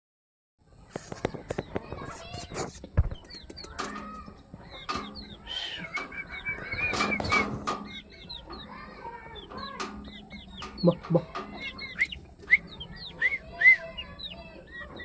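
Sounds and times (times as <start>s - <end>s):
chickens clucking: 0.8s - 15.0s.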